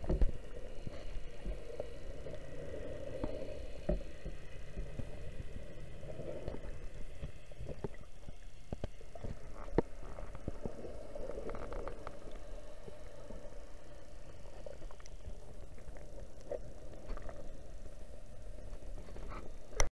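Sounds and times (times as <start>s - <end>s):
muffled underwater rumble: 0.0s - 19.9s
underwater bubbling: 0.0s - 19.9s.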